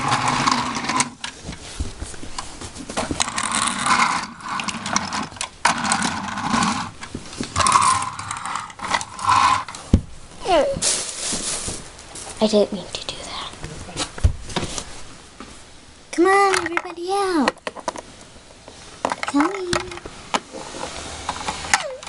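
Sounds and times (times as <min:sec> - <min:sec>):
objects being handled: 0:00.0 - 0:12.6, 0:13.6 - 0:15.6, 0:16.3 - 0:22.0.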